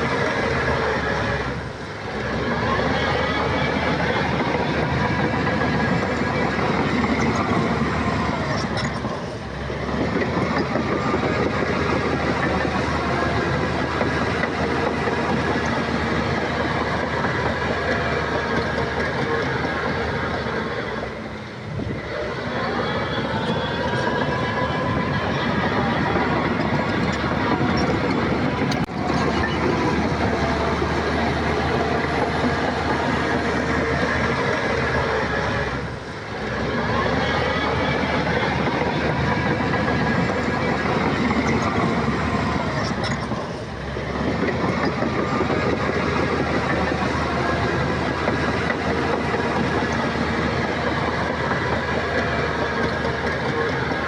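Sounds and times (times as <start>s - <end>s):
diesel engine under load: 0.0s - 54.0s
metallic track clatter: 2.5s - 22.4s, 23.0s - 54.0s.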